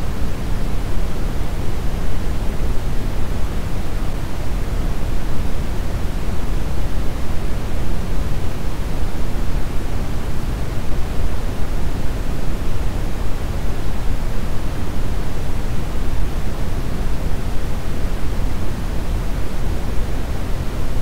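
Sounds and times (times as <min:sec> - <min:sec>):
brown noise hiss: 0:00.0 - 0:21.0.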